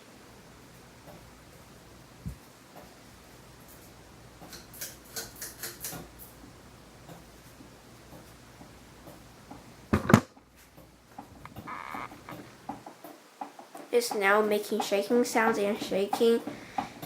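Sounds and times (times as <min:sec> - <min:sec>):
ceiling fan humming: 0:00.0 - 0:17.0
fan clicking and rattling: 0:00.5 - 0:17.0.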